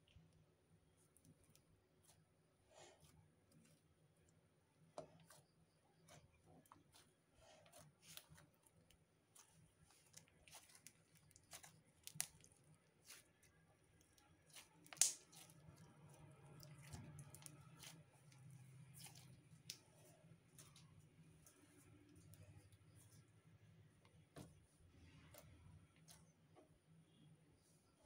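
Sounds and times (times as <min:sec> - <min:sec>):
sticky slime squishing: 0:00.9 - 0:26.5.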